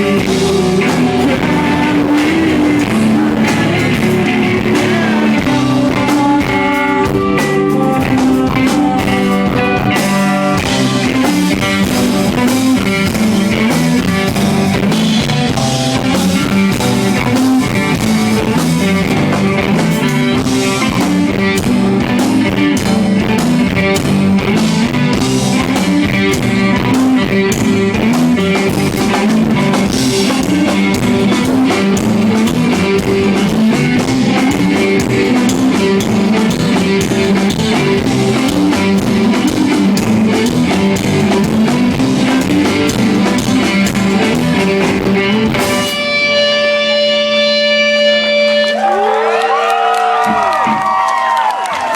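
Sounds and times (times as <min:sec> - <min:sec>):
drum kit: 0:00.0 - 0:51.9
electric guitars: 0:00.0 - 0:51.9.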